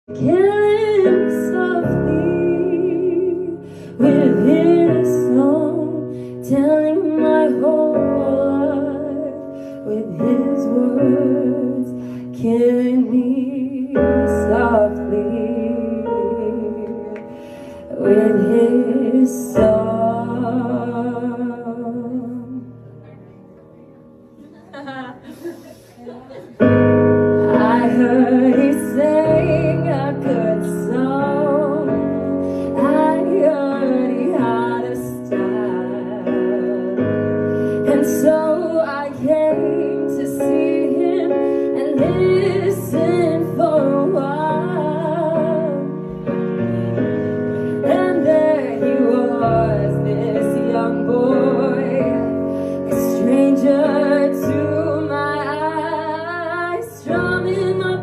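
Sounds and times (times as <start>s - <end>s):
sustained piano chords: 0.0s - 25.4s, 26.0s - 58.0s.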